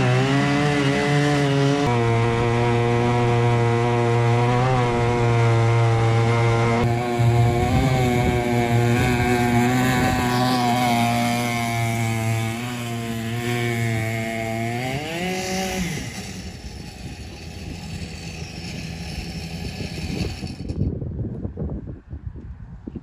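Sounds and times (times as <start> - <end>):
chainsaw engine running at high revs: 0.0 - 20.9.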